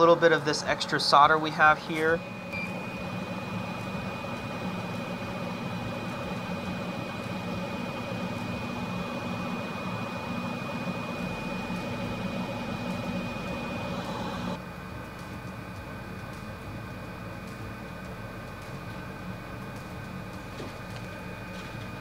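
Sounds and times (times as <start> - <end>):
small electric fan whirring: 0.0 - 22.0.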